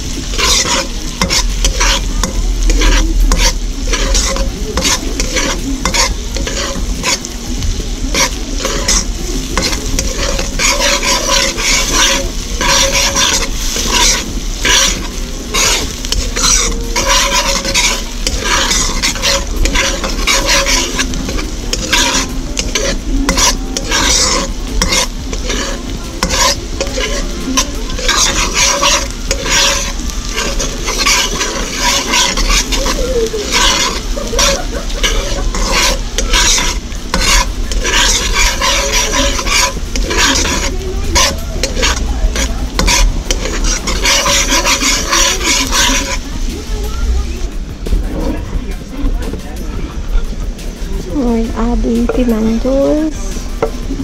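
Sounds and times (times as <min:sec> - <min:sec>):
metal ladle scraping a wok: 0:00.0 - 0:47.2, 0:51.2 - 0:54.0
food sizzling in hot oil: 0:00.0 - 0:54.0.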